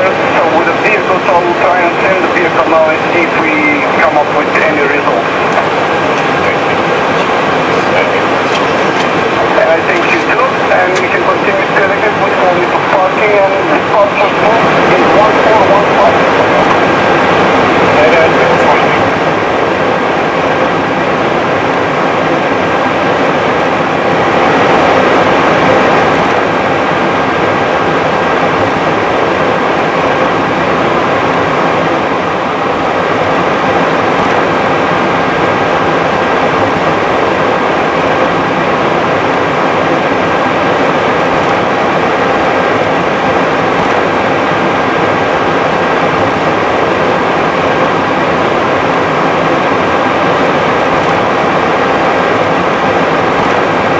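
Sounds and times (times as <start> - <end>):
aircraft engine and air rush: 0.0 - 53.9
thin steady whine: 0.0 - 53.9.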